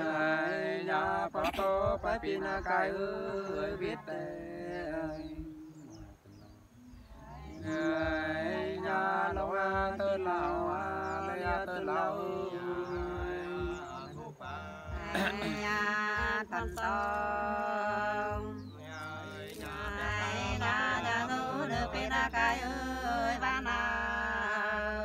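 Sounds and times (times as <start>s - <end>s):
person singing unaccompanied: 0.0s - 6.2s, 7.0s - 25.0s.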